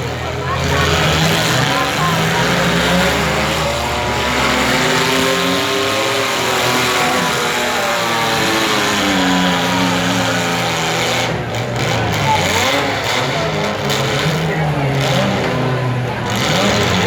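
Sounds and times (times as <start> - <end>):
car engines revving: 0.0 - 17.0
constant engine roar: 0.0 - 17.0.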